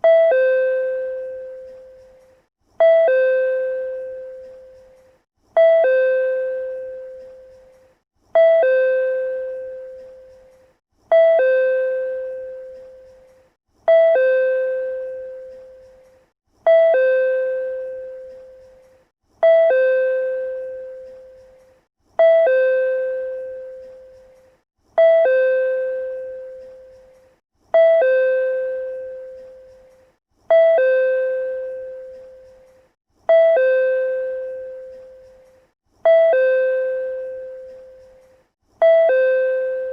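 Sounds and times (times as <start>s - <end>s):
two-tone chime: 0.0s - 39.9s.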